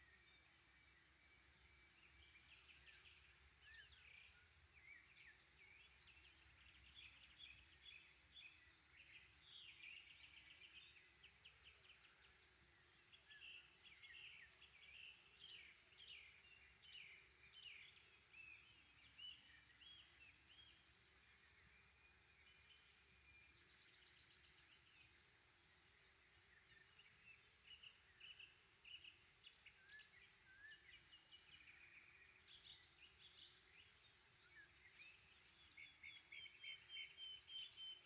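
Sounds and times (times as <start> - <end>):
songbirds chirping and trilling: 0.0 - 38.0.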